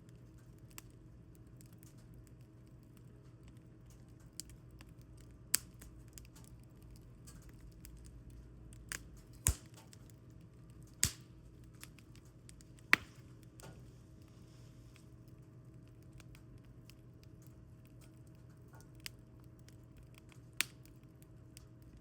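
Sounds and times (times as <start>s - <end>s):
firewood crackling and popping: 0.0s - 13.8s, 14.9s - 22.0s.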